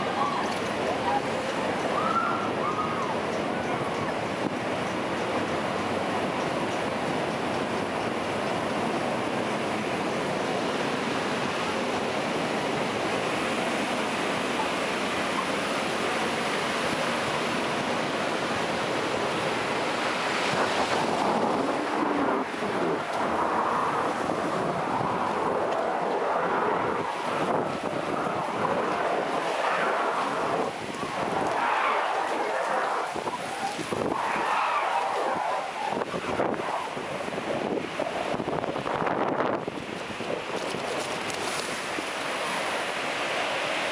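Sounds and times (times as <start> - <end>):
water rushing: 0.0 - 43.9
wind on microphone: 0.0 - 43.9.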